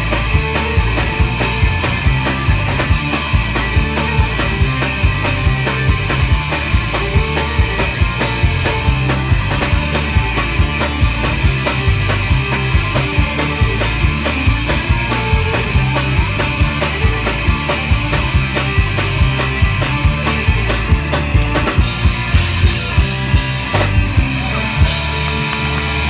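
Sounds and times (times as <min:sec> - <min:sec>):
fast drumbeat: 0:00.0 - 0:26.0
fiddle: 0:00.0 - 0:26.0
guitars: 0:00.0 - 0:26.0
heavy pulsing bass line: 0:00.0 - 0:26.0.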